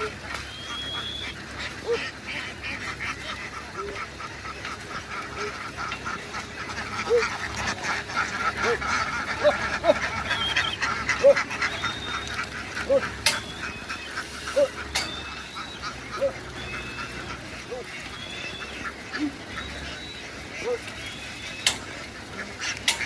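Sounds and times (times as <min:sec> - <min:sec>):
flock of ducks quacking: 0:00.0 - 0:23.0.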